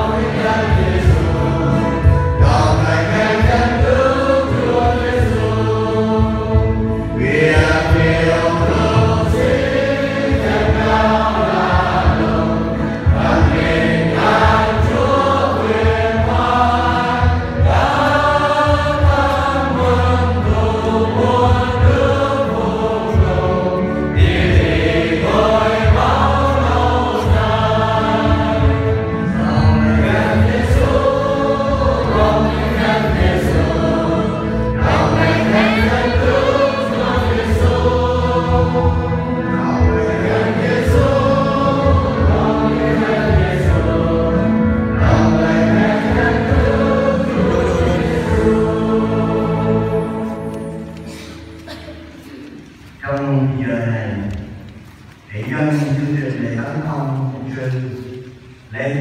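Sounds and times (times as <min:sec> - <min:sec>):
congregation singing a hymn: 0:00.0 - 0:59.0.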